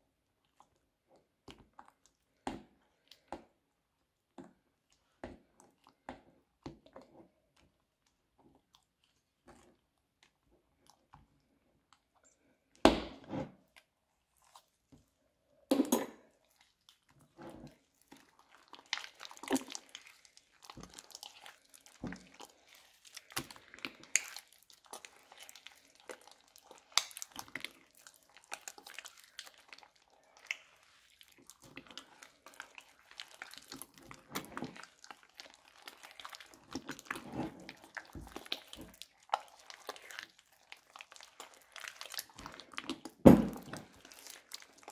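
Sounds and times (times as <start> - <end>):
spatula stirring slime in bowl: 0.1 - 44.9
slime squelching and crackling: 0.2 - 44.9.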